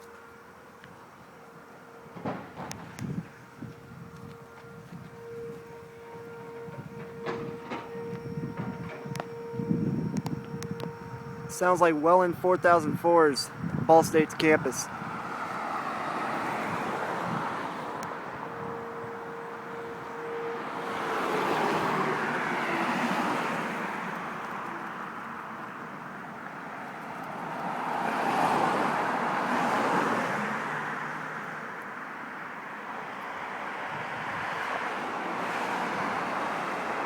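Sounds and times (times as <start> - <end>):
distant tornado warning sirens wailing: 0.0 - 37.0
low traffic hum: 0.0 - 37.0.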